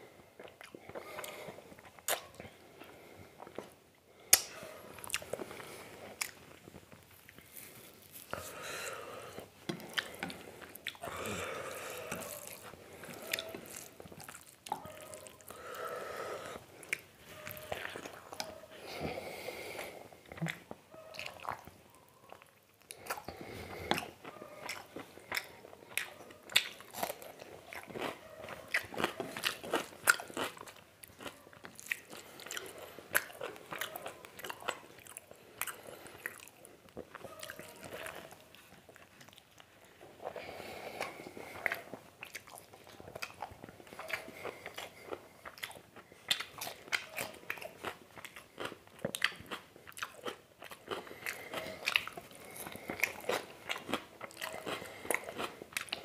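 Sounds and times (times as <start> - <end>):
close-up chewing and biting: 0.4 - 56.0.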